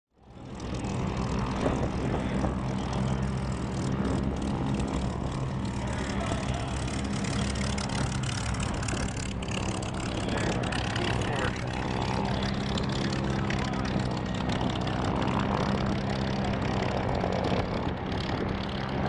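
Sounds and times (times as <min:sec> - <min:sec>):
propeller aircraft engine drone: 0:00.1 - 0:19.0.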